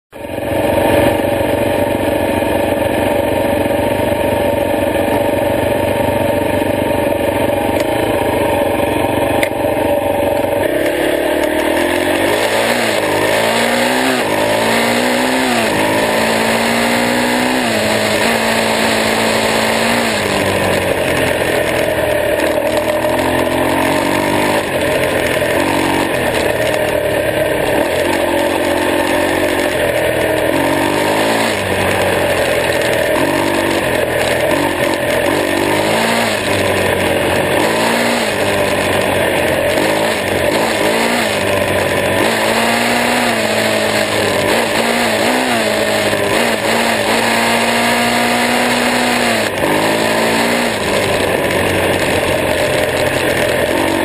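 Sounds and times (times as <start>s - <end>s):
dirt bike engine revving: 0.2s - 54.0s.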